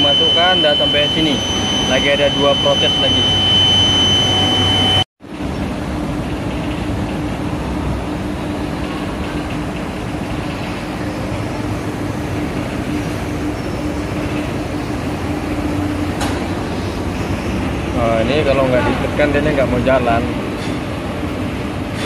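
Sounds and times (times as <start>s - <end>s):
industrial machinery droning: 0.0s - 22.0s.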